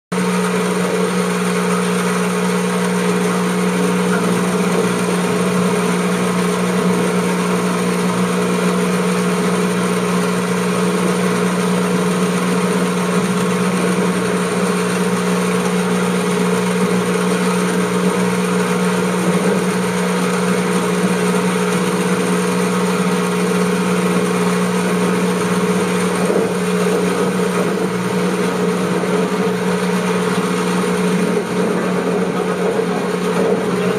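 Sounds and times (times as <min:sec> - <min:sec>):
combine harvester engine drone: 0:00.1 - 0:33.9.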